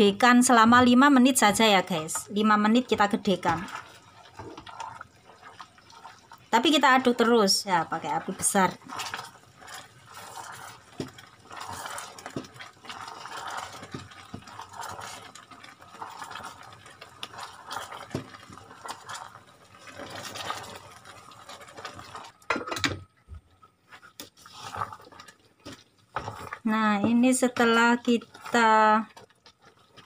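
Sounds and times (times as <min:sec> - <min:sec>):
syrup bubbling and sloshing: 0:00.5 - 0:30.0.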